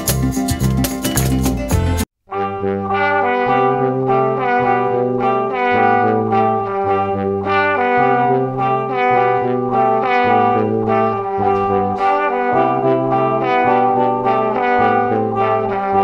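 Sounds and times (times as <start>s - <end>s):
bass line: 0.0s - 16.0s.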